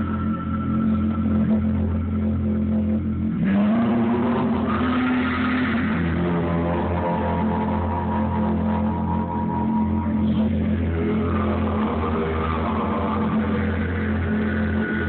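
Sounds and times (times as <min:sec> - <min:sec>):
buzzing low electronic drone: 0:00.0 - 0:15.0.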